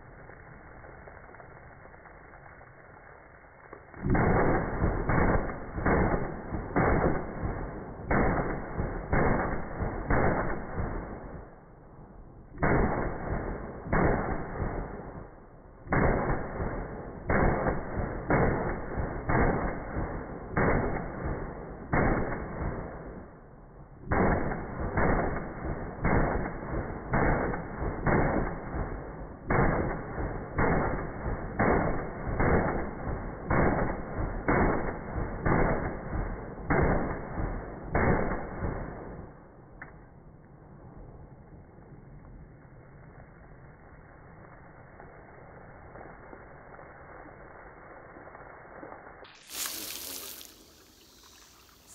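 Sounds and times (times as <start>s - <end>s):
slow motion gunshots with echo: 0.0s - 47.5s.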